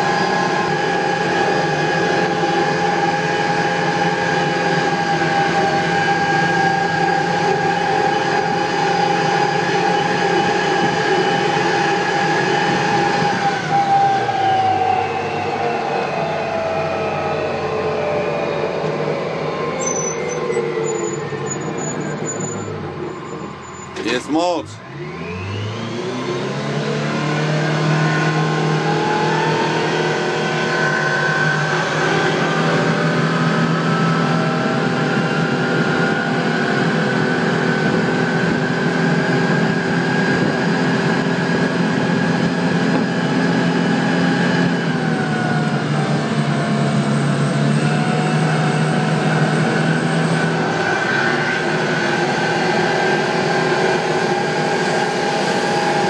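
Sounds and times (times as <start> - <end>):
tractor diesel engine running: 0.0 - 26.1, 26.8 - 56.0.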